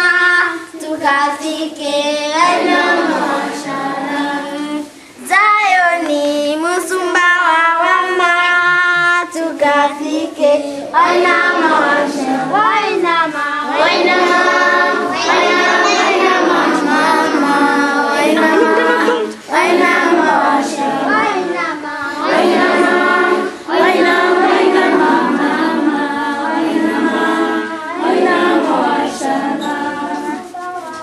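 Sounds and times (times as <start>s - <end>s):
children's choir singing: 0.0s - 31.0s.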